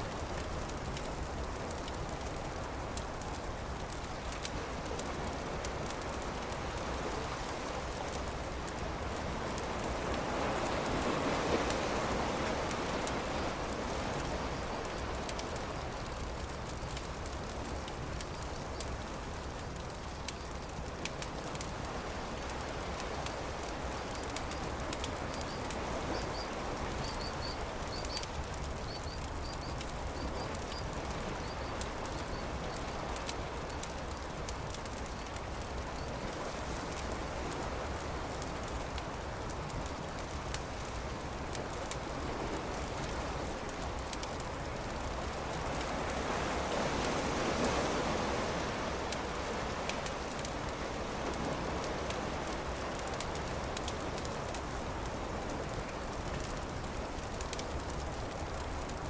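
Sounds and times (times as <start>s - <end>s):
campfire crackling: 0.0s - 59.0s
surf washing: 0.0s - 59.0s.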